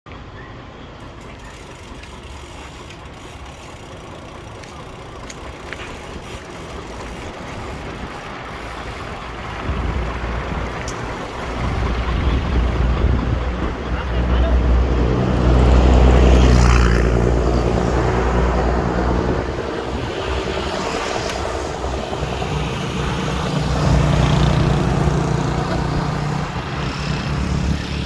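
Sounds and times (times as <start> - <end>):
vehicle engine running: 0.9 - 28.0.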